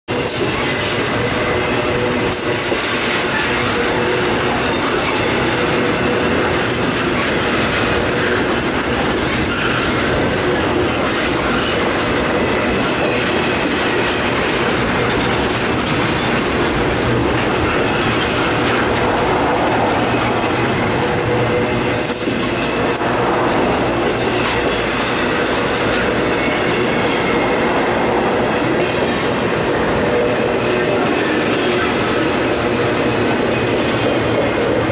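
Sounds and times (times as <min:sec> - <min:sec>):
train wheels clattering over rail joints: 0:00.1 - 0:34.9.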